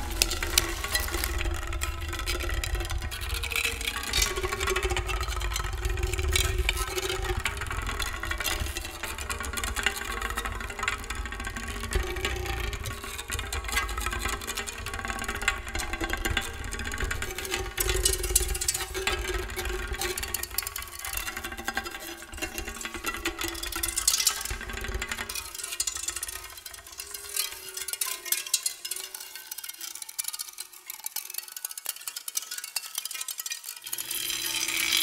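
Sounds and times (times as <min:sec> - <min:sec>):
sticks rattling on objects and drums: 0:00.0 - 0:35.0.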